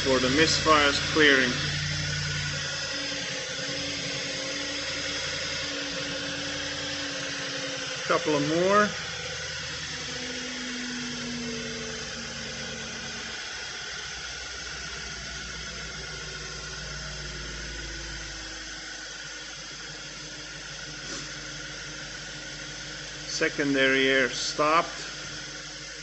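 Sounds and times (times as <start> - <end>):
air pump hissing: 0.0 - 26.0
car engine idling: 0.0 - 26.0.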